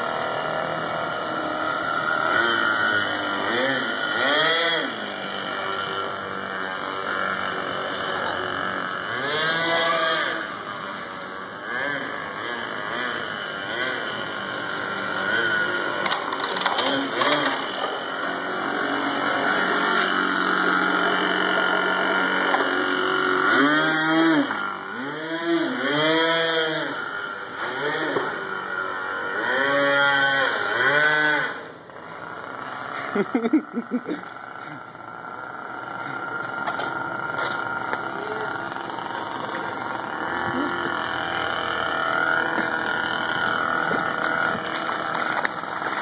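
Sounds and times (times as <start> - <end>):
small nitro engine revving: 0.0 - 46.0.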